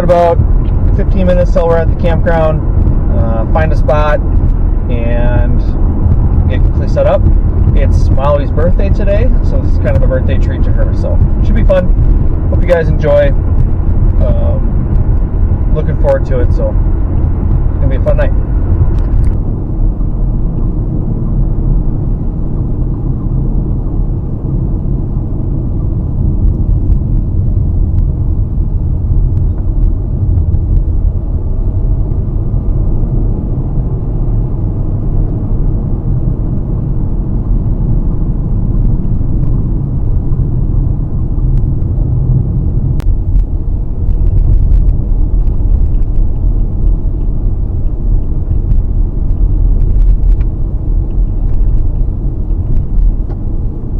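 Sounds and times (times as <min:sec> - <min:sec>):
car road rumble inside cabin: 0:00.0 - 0:53.9.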